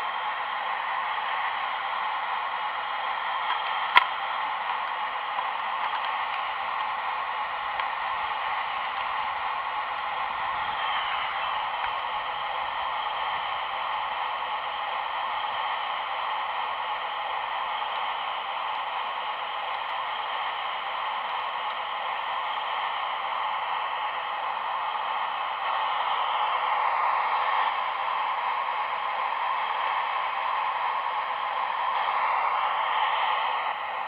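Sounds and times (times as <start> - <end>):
model machinery whirring hiss: 0.0 - 34.0.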